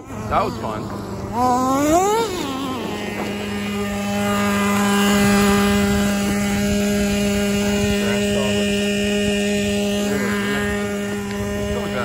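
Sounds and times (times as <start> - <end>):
rc truck nitro engine revving: 0.0 - 12.0.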